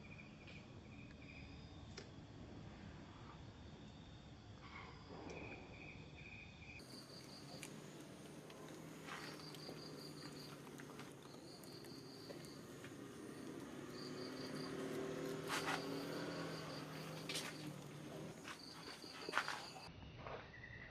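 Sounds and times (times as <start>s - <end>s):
insects chirping: 0.0s - 20.9s.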